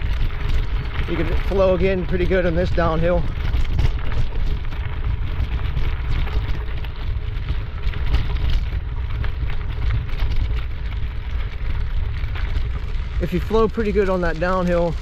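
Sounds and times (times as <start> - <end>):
footsteps crunching on trail: 0.0 - 15.0
wind buffeting microphone: 0.0 - 15.0.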